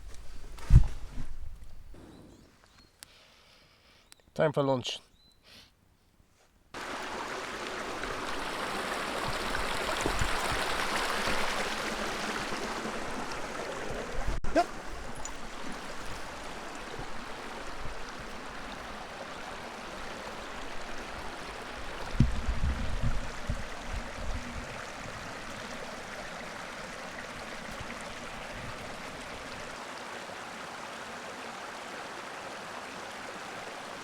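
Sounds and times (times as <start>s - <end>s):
running water rushing: 6.8s - 34.0s.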